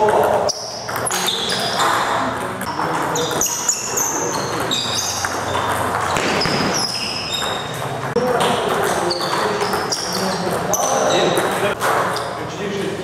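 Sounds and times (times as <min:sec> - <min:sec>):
table tennis balls clicking: 0:00.0 - 0:12.4.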